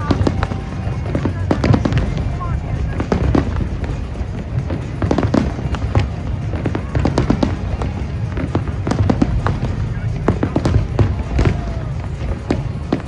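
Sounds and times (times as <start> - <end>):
fireworks bangs and crackles: 0.0 - 13.0
low rumble: 0.0 - 13.0
music playing: 0.0 - 13.0.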